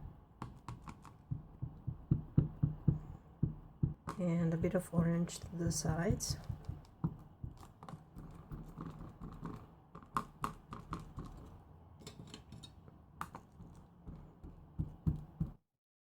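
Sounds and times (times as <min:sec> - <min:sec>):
ink tool tapping on stamp: 0:00.4 - 0:11.5, 0:13.2 - 0:15.6.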